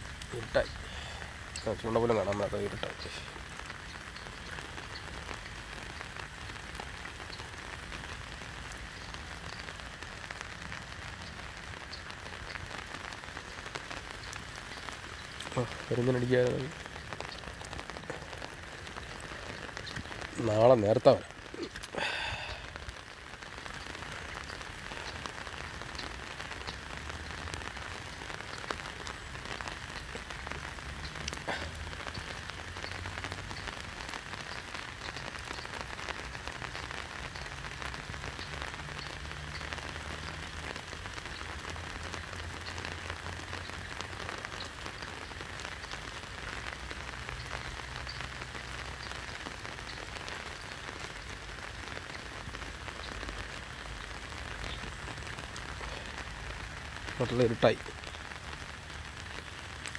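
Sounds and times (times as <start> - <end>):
rain falling on a river: 0.0 - 59.9.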